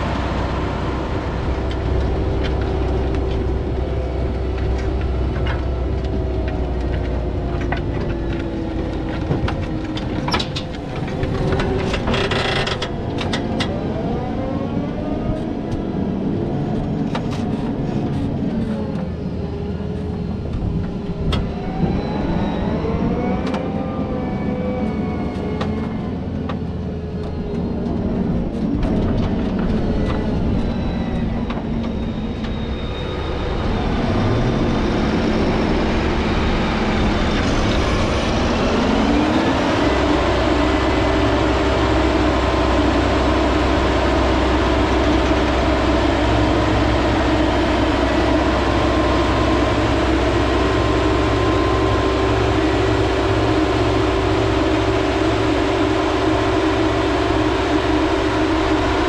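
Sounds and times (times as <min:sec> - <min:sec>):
farm machinery running: 0:00.0 - 0:59.0.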